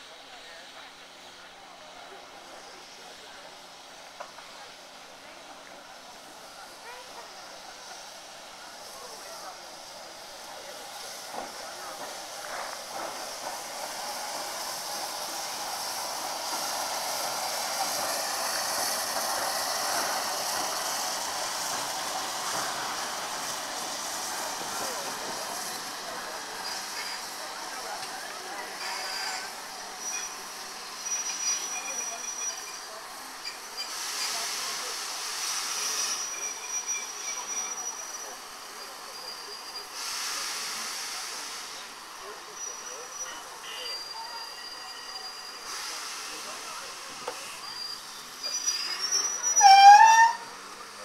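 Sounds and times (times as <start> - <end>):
steam hissing from safety valves: 0.0 - 51.0.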